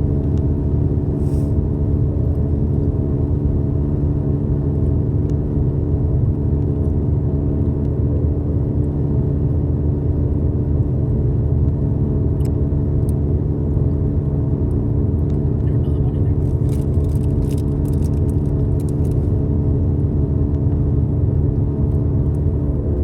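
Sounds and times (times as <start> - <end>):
low mechanical rumble with hum: 0.0 - 23.0.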